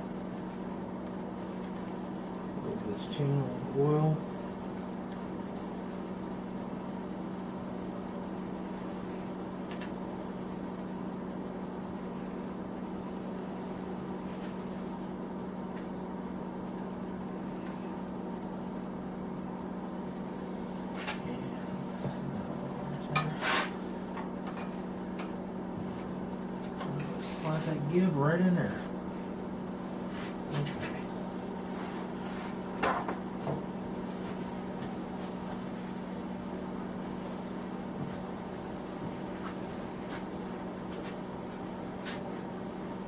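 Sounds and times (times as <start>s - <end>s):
space heater humming: 0.0s - 43.0s.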